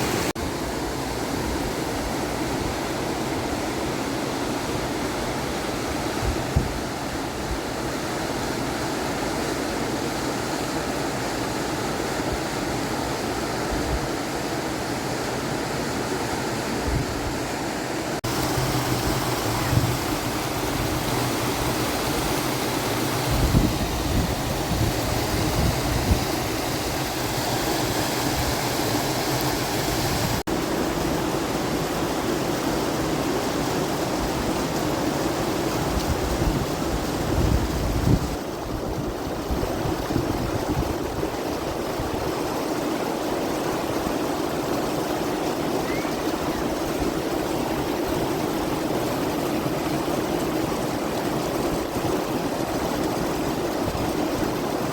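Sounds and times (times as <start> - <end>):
flowing water rushing: 0.0 - 54.9.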